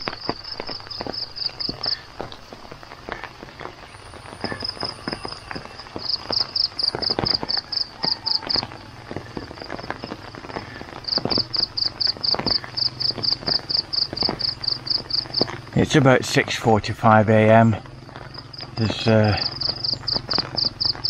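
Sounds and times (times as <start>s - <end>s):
insect chirping in pulses: 0.0s - 2.6s, 3.8s - 15.8s, 17.4s - 21.0s
footsteps walking outdoors: 0.0s - 21.0s.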